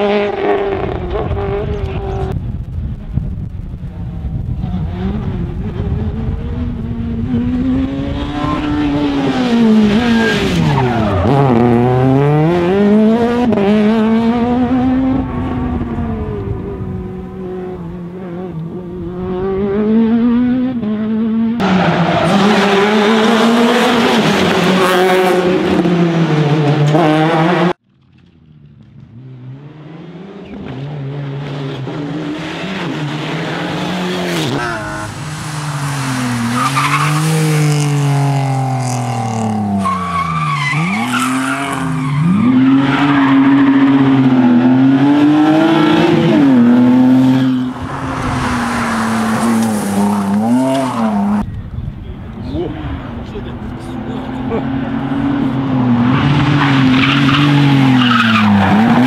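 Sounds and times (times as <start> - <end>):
rally car passing: 0.0 - 27.8, 28.4 - 59.0
rally car engine at full throttle: 0.0 - 59.0.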